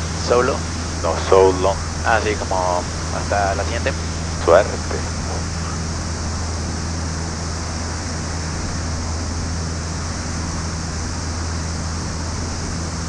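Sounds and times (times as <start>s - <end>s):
aircraft engines droning in cabin: 0.0s - 13.0s.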